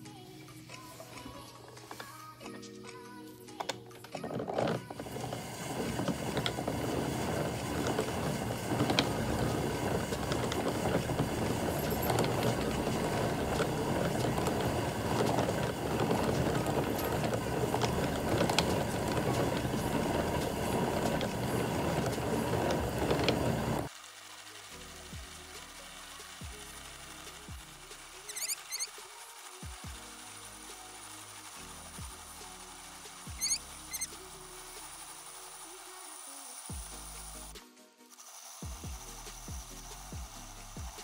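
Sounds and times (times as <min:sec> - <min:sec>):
yarn winder mechanical whir: 0:03.6 - 0:37.6.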